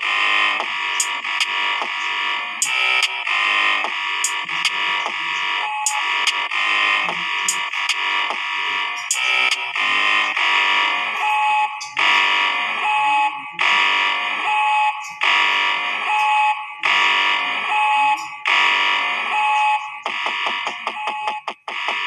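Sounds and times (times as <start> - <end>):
buzzing electronic alarm tone: 0.0 - 22.0.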